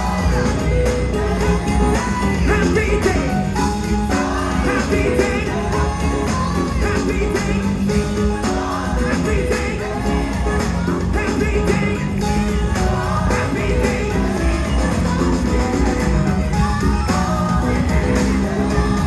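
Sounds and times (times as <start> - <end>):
band playing gospel music: 0.0 - 19.0
choir singing: 0.0 - 19.0.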